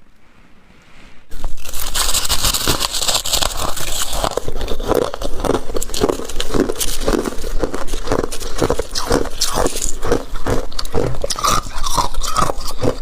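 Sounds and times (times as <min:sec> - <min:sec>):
frost crackling and crunching: 0:01.3 - 0:13.0.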